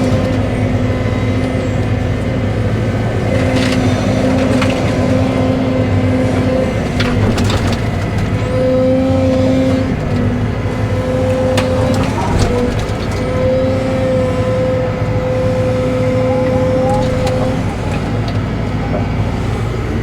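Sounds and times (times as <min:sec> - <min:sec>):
excavator engine drone: 0:00.0 - 0:20.0
hydraulic whine: 0:00.0 - 0:20.0.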